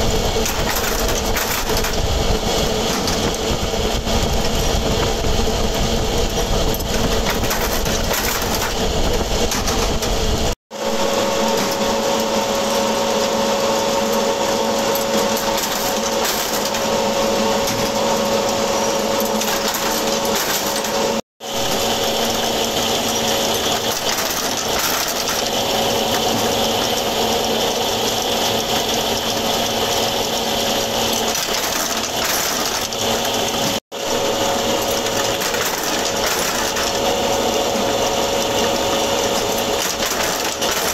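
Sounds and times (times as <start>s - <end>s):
forging press mechanical hum: 0.0s - 40.9s.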